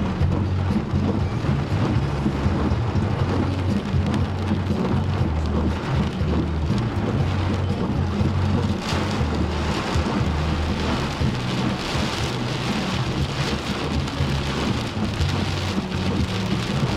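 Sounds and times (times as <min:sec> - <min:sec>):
deep uneven rumble: 0:00.0 - 0:16.9
heavy rain pouring: 0:00.0 - 0:16.9.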